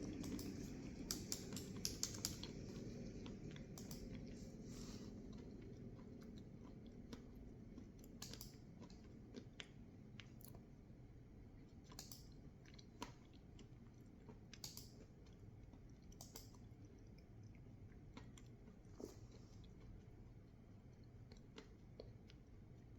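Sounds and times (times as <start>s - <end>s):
chewing crunchy food: 0.0s - 22.9s.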